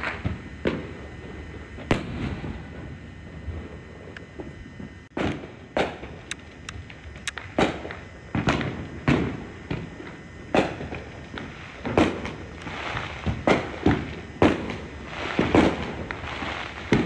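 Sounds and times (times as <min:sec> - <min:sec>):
distant fireworks bangs: 0:00.0 - 0:03.0, 0:04.4 - 0:17.0.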